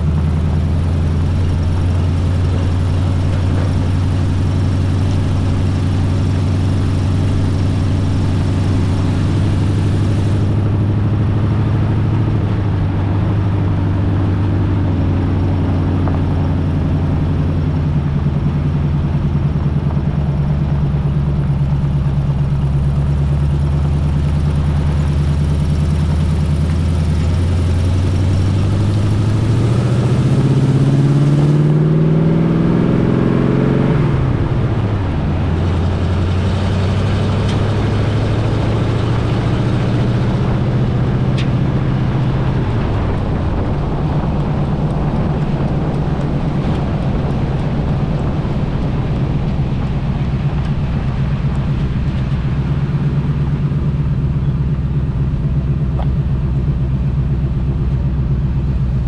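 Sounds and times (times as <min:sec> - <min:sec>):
pickup truck engine driving: 0:00.0 - 0:59.0.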